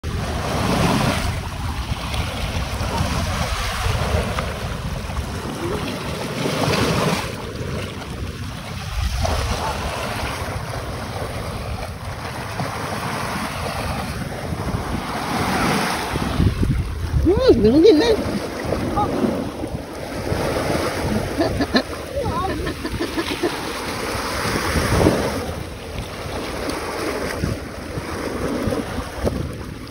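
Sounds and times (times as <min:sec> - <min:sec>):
sea waves washing onto shore: 0:00.0 - 0:29.9
wind buffeting microphone: 0:00.0 - 0:29.9.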